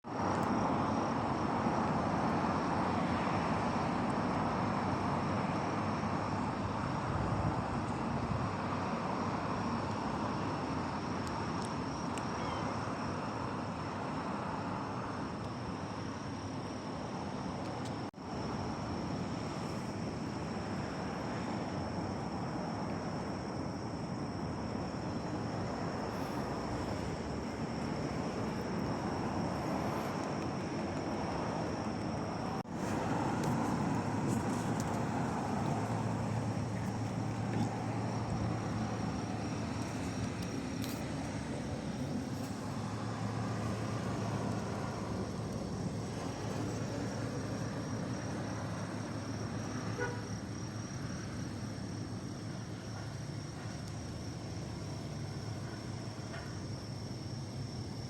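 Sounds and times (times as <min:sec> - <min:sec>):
outdoor background noise: 0:00.0 - 0:58.0.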